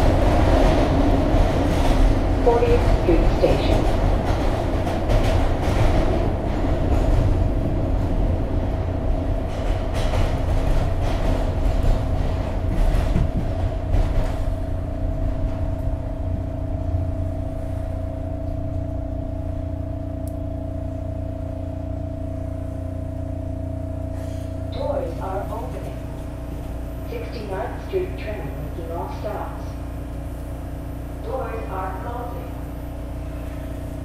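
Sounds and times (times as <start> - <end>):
subway train rumbling and rattling: 0.0 - 34.0.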